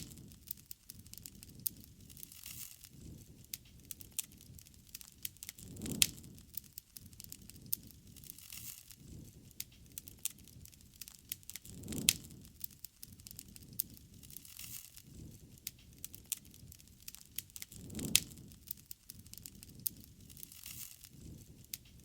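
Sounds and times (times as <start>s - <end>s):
loud pops with low flare: 0.0s - 22.0s
soft low rush of flame: 0.0s - 22.0s
wood fire crackling: 0.0s - 22.0s.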